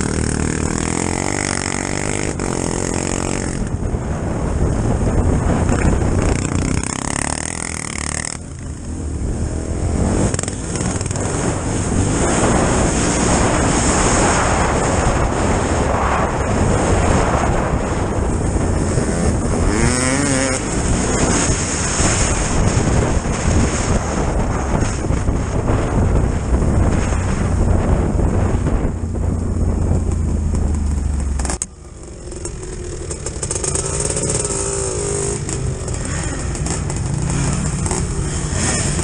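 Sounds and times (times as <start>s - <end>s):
wind rushing: 0.0s - 31.4s
atv engine revving: 0.0s - 39.0s.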